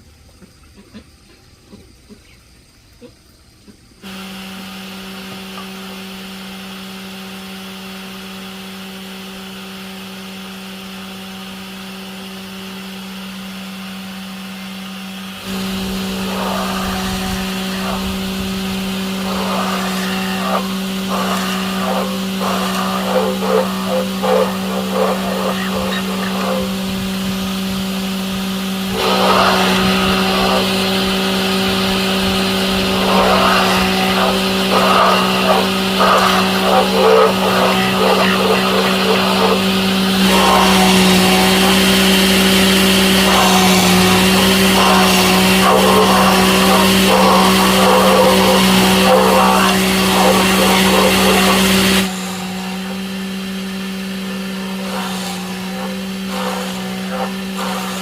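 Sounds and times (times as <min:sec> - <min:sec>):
motor humming: 0:10.8 - 0:58.0.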